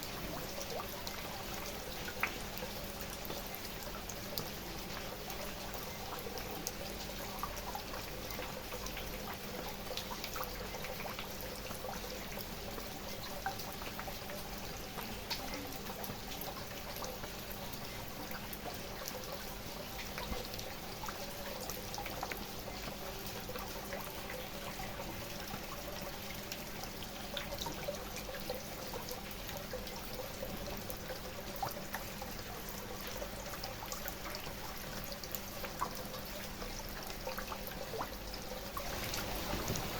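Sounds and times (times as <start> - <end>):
rain drops ticking: 0.0 - 39.9
trickling water: 0.0 - 39.9.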